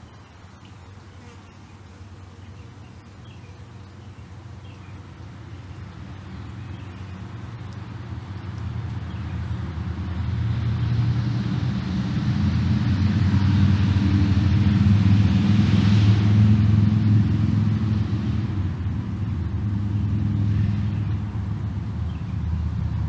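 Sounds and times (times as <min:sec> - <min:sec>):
motor vehicle rumble: 0:02.8 - 0:23.0.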